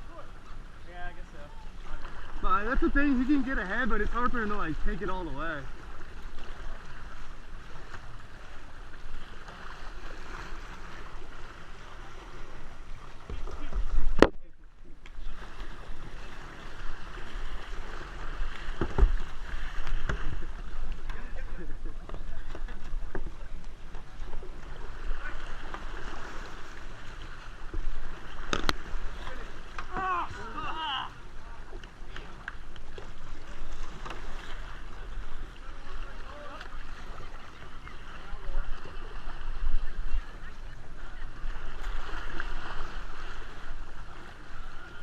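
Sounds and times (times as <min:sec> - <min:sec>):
water splashing around kayak: 0:00.0 - 0:45.0.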